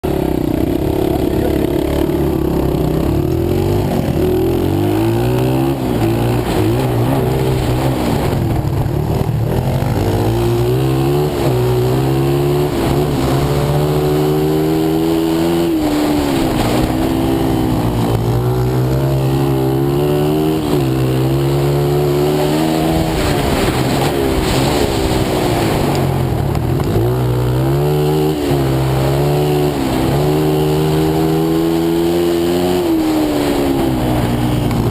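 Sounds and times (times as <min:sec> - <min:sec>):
pit bike engine revving: 0:00.0 - 0:34.9.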